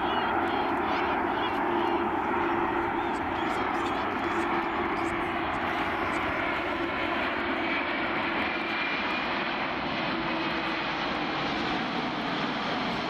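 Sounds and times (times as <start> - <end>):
jet airliner engines: 0.0 - 13.0.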